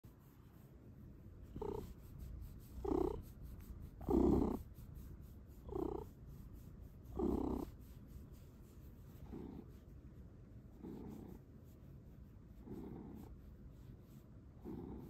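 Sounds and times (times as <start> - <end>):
cat purring: 1.4 - 15.0.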